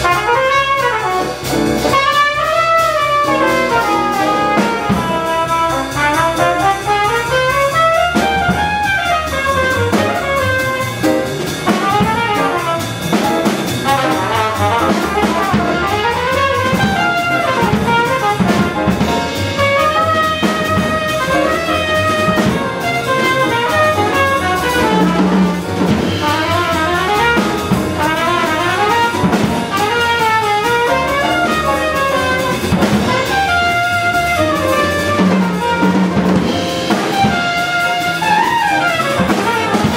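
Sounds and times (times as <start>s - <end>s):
double bass: 0.0s - 39.9s
drum kit: 0.0s - 39.9s
grand piano: 0.0s - 39.9s
trumpet quick runs: 0.0s - 39.9s.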